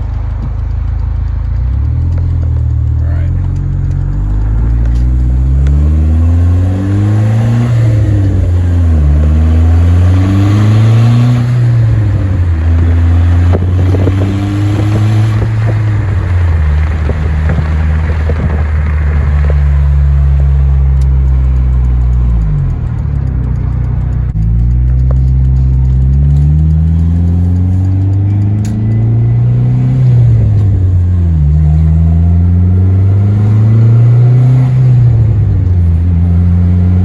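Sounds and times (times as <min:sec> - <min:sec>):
car engine shifting gears: 0:00.0 - 0:37.0.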